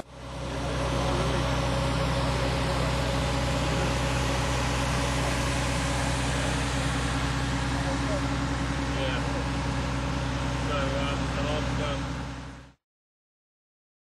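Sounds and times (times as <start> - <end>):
ferry engine droning: 0.0 - 12.8.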